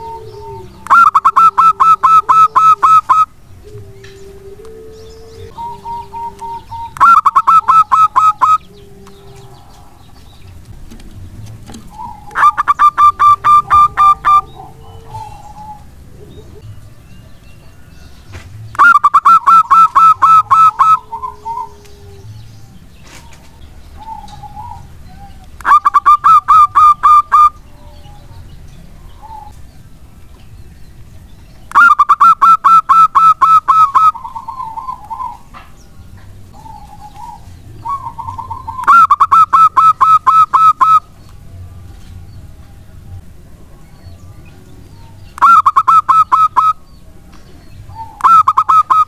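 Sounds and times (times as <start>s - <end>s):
dove cooing: 0.0s - 16.8s, 18.8s - 29.7s, 31.7s - 35.7s, 36.5s - 41.1s, 45.4s - 49.0s.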